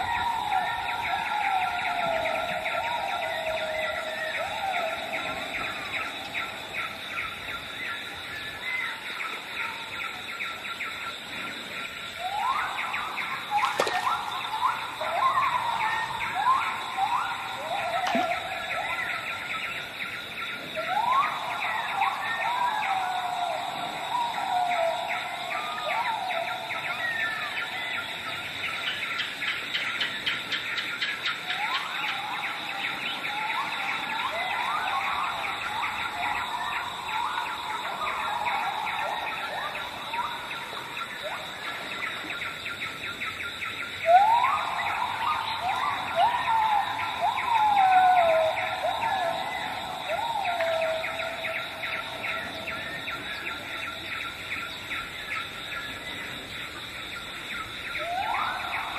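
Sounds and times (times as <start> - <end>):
insect trill: 0.0 - 58.9.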